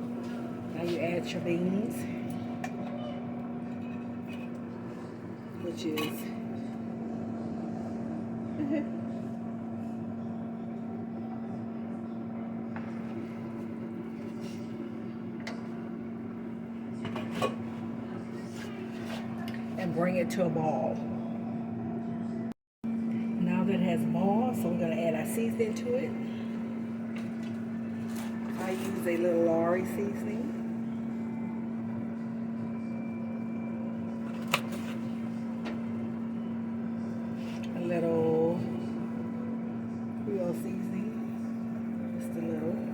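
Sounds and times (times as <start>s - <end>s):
kitchen appliance humming: 0.0s - 42.9s.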